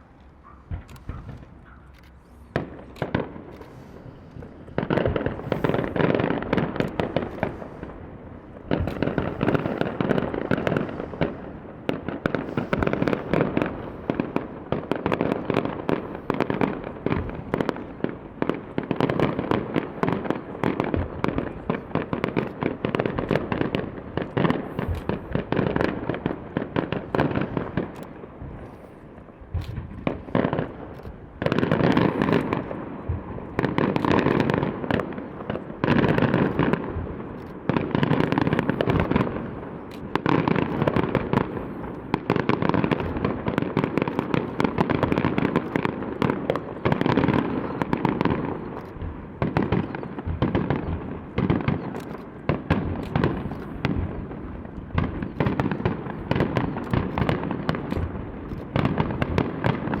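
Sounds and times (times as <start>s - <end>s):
fireworks booming and crackling: 0.0s - 60.0s.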